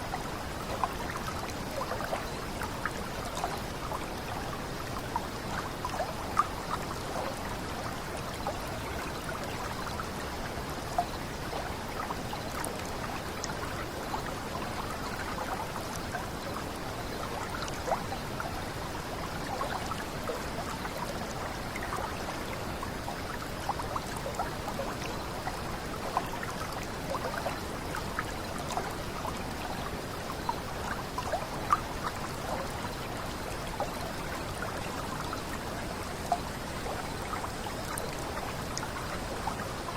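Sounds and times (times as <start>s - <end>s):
small drip-like splashes: 0.0s - 39.9s.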